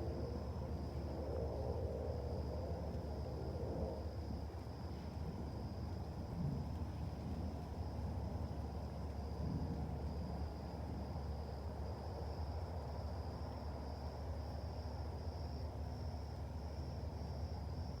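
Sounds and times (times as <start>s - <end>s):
low rumbling background noise: 0.0s - 18.0s.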